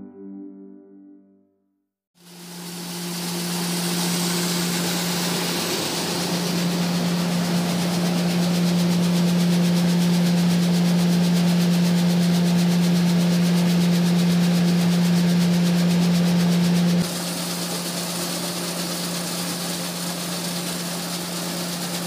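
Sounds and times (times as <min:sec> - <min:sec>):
machine hum: 0:02.2 - 0:22.0.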